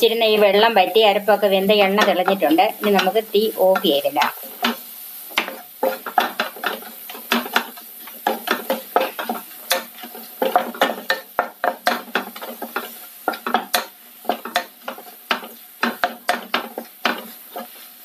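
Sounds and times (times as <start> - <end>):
faint sizzle of frying paste: 0.0 - 18.0
wooden spatula scraping frying pan: 0.0 - 18.0.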